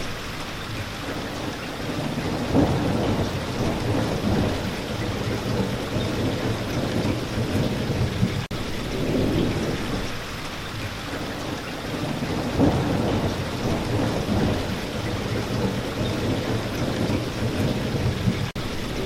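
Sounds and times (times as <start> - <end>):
heavy rain: 0.0 - 19.0
rolling thunder: 1.1 - 19.0.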